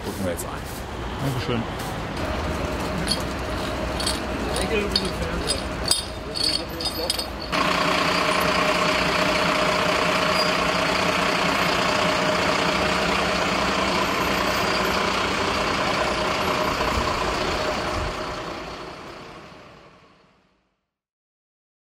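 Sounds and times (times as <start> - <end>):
truck engine idling: 2.2 - 20.4.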